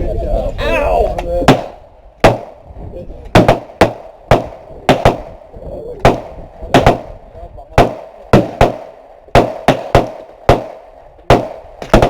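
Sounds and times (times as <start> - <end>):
gunshots with echo: 1.5 - 2.7, 3.3 - 12.0.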